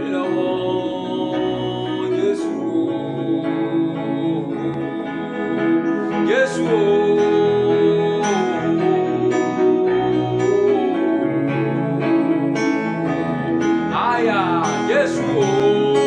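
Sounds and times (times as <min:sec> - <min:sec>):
keyboard and guitar chords: 0:00.0 - 0:16.0.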